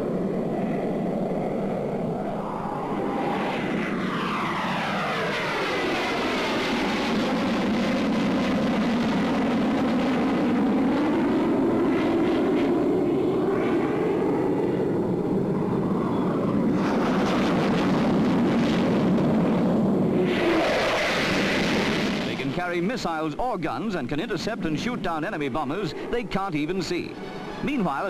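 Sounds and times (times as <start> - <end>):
jet roar flying by: 0.0 - 28.0.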